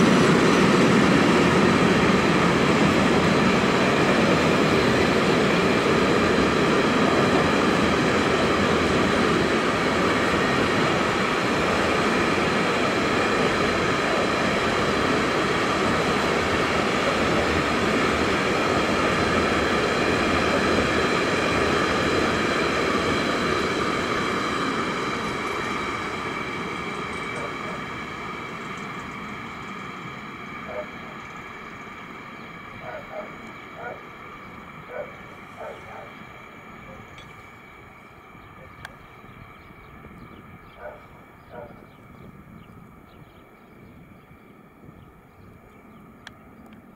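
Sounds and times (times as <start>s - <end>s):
train wheels rolling on rails: 0.0s - 46.9s.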